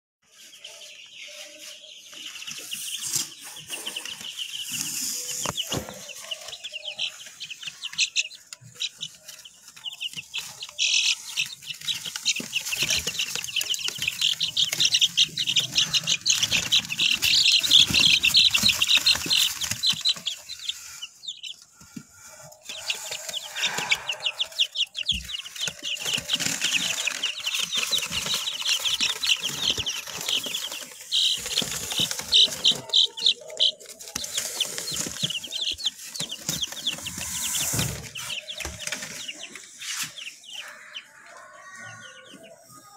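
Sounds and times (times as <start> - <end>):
chickens calling: 0.2 - 42.9.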